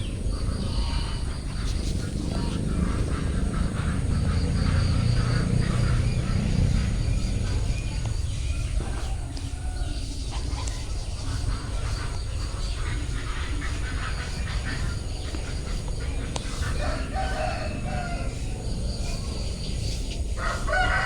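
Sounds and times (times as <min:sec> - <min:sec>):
low rumble: 0:00.0 - 0:20.7
chickens and birds calling: 0:00.0 - 0:21.0
insect trill: 0:00.0 - 0:21.0.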